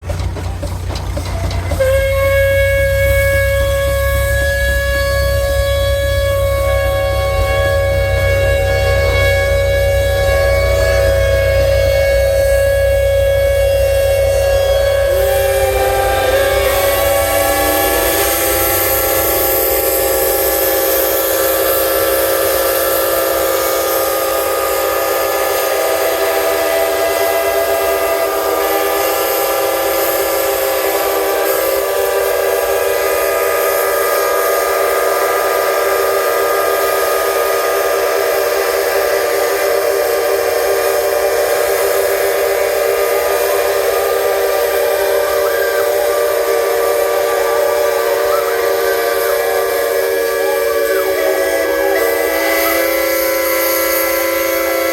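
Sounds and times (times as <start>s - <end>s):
steam hissing: 0.0s - 54.9s
steam whistles blowing: 0.0s - 54.9s.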